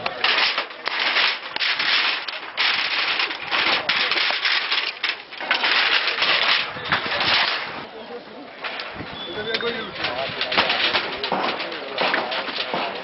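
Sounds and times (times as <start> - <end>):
debris scraping and crackling: 0.0 - 7.9, 8.5 - 13.0.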